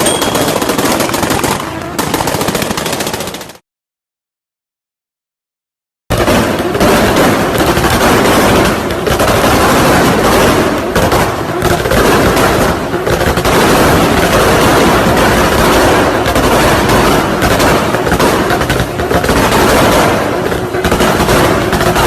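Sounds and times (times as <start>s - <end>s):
car exhaust bangs and crackles: 0.5s - 2.8s, 6.1s - 22.0s.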